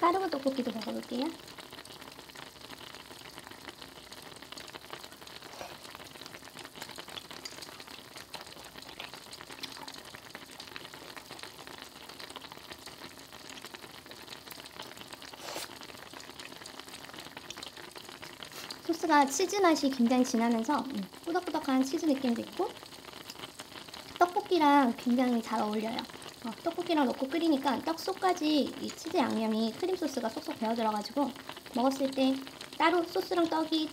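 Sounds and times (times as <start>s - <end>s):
soft crackling hiss: 0.0s - 33.9s.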